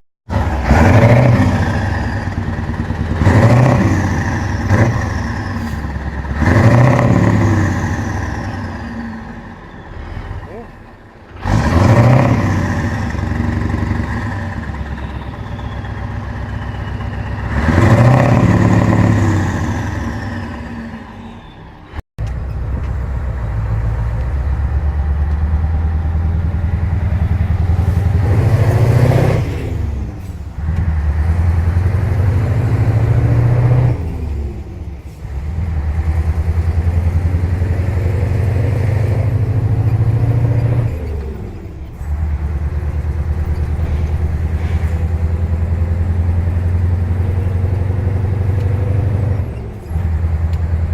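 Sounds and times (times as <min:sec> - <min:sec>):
diesel engine revving: 0:00.3 - 0:50.9.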